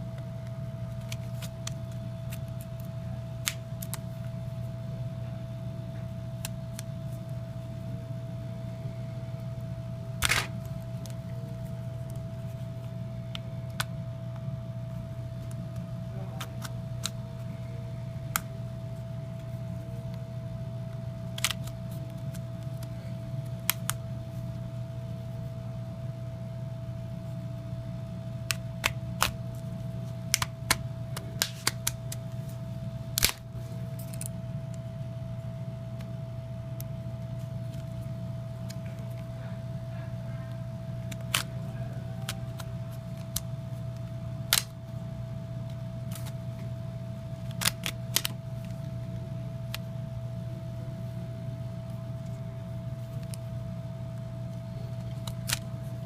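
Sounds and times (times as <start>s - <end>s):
low electrical hum: 0.0s - 56.0s
thin whine: 0.0s - 56.0s.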